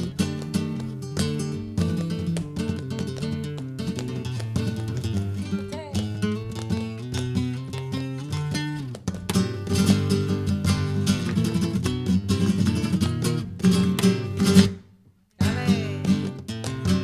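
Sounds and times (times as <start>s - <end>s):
flamenco guitar playing: 0.0s - 14.8s, 15.4s - 17.0s.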